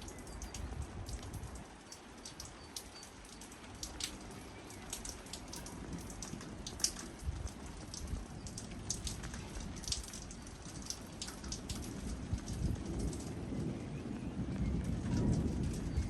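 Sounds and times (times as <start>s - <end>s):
drops ticking on a surface: 0.0s - 13.3s
rain falling: 0.0s - 16.0s.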